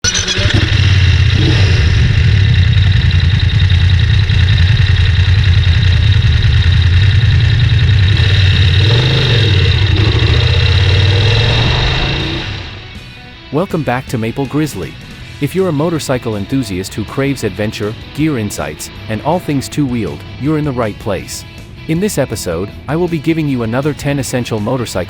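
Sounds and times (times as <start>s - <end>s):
motorcycle engine running: 0.0s - 13.3s, 14.4s - 24.2s.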